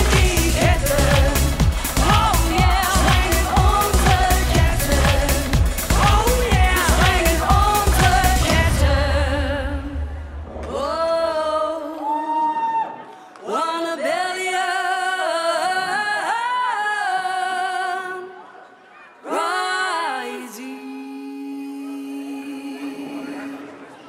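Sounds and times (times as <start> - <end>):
woman singing: 0.0 - 12.5, 13.4 - 18.5, 19.2 - 23.9.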